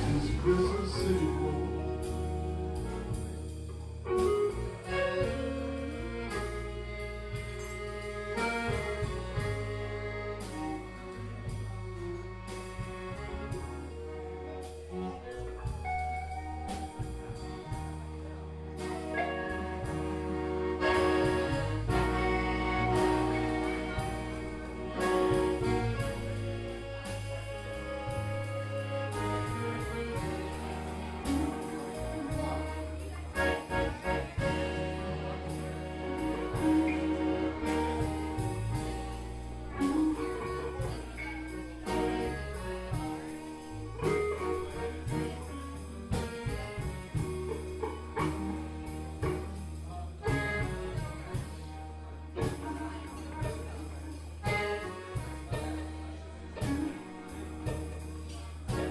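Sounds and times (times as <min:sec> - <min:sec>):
bass guitar: 0:00.0 - 0:58.9
drums: 0:00.0 - 0:58.9
live band playing: 0:00.0 - 0:58.9.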